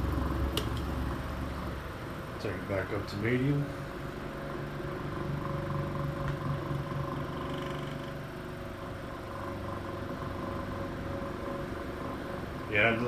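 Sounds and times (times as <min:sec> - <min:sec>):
desk fan humming with vibration: 0:00.0 - 0:13.0.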